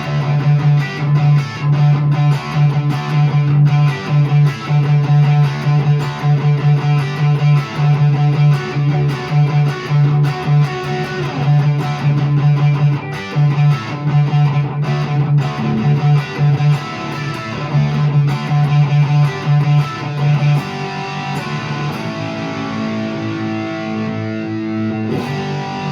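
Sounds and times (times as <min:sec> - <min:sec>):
electric guitar low notes: 0:00.0 - 0:25.9.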